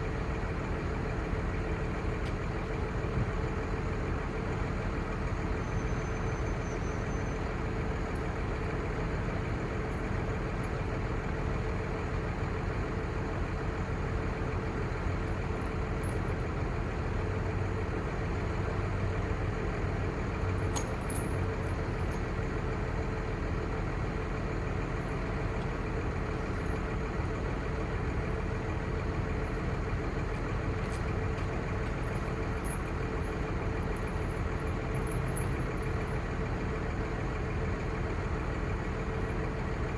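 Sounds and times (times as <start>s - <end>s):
constant hum: 0.0s - 39.9s
diesel truck engine idling: 0.0s - 39.9s.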